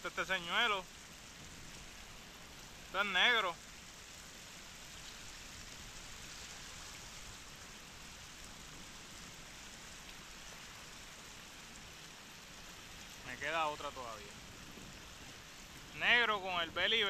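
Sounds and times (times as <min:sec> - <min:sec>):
stream running over gravel: 0:00.0 - 0:17.0.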